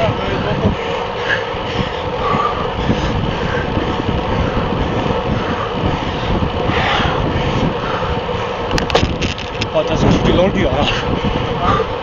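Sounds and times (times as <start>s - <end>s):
tyre noise on asphalt: 0.0s - 10.2s
wind buffeting microphone: 0.0s - 12.0s.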